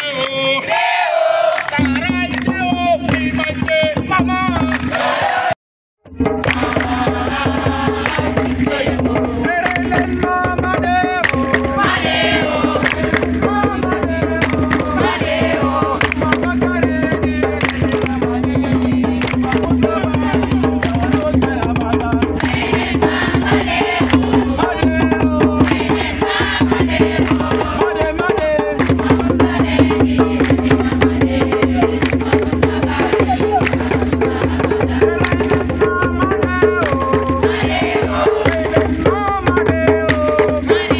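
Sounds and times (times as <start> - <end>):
voices singing: 0.0 - 3.3, 6.3 - 40.9
fast hand drumming: 6.2 - 40.9.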